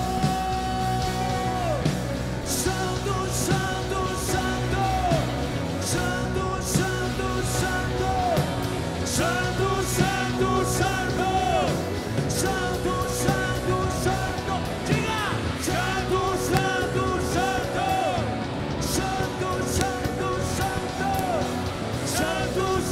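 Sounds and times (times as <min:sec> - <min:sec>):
bass guitar: 0:00.0 - 0:22.9
distorted electric guitars: 0:00.0 - 0:22.9
drums with cymbal hits: 0:00.0 - 0:22.9
man singing: 0:00.0 - 0:22.9.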